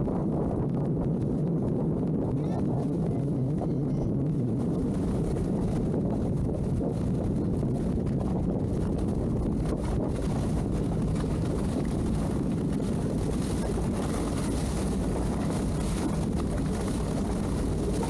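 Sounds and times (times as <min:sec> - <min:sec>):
outboard motors droning: 0:00.0 - 0:18.0.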